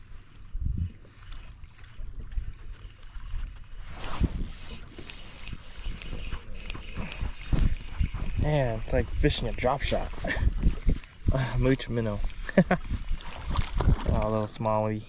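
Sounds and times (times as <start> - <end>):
water lapping against kayak hull: 0.0 - 14.8.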